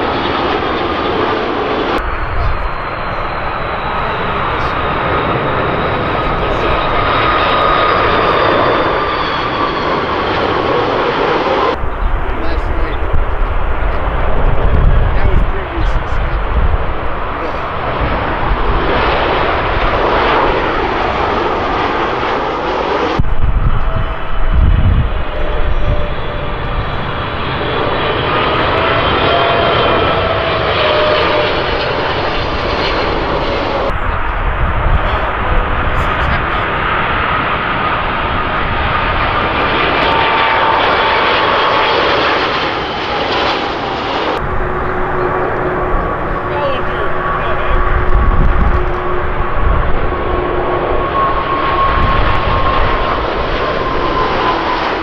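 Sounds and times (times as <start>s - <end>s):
jet airliners passing overhead: 0.0s - 55.0s.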